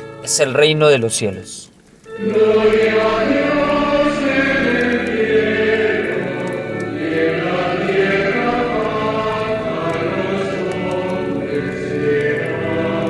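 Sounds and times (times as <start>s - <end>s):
choir singing slow chant: 2.1s - 13.0s.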